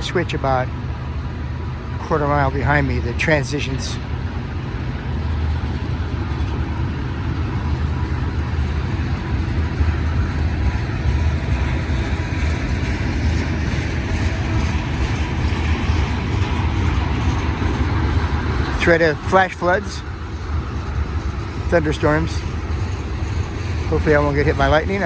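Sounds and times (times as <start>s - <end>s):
freight train rolling past: 0.0s - 25.0s.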